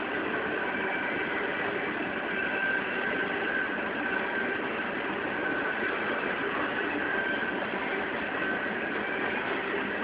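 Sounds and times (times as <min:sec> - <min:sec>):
faint high whine: 0:00.0 - 0:10.0
train wheels rumbling on rail: 0:00.0 - 0:10.0.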